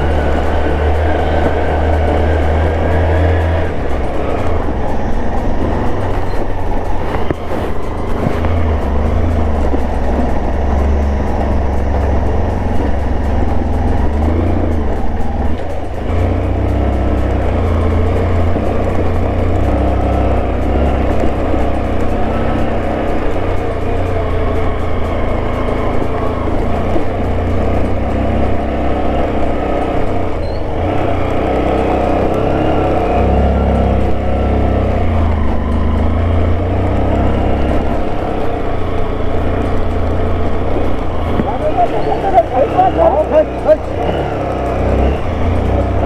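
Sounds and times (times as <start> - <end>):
background music: 0.0 - 46.0
scooter engine running under load: 0.0 - 46.0.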